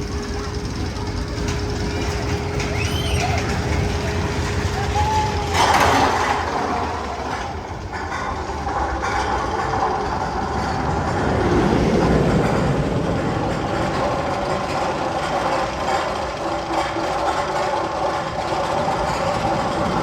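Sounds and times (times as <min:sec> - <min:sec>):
roller coaster rumbling on track: 0:00.0 - 0:20.0.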